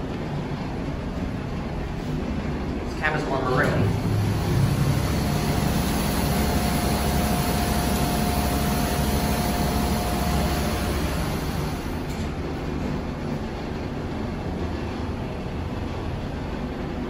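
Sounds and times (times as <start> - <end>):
elevator rumble and hum: 0.0 - 17.0
steady whine: 0.0 - 17.0.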